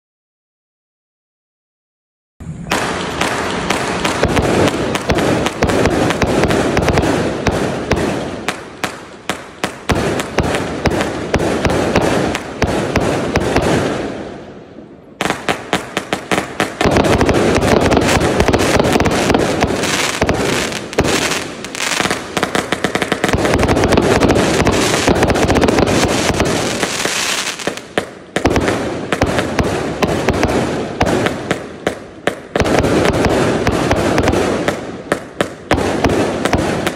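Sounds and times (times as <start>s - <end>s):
fireworks bursting and crackling: 2.4s - 36.9s.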